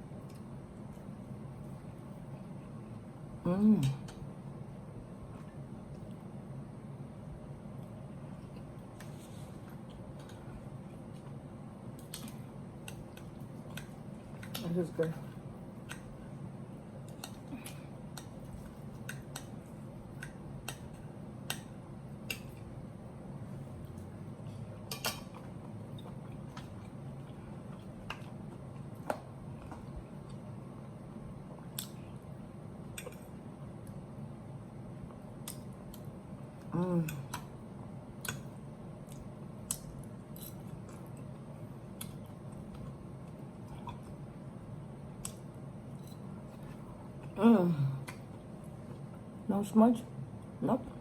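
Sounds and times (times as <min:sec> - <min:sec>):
faint low hum: 0:00.0 - 0:51.0
quiet eating sounds: 0:00.0 - 0:51.0.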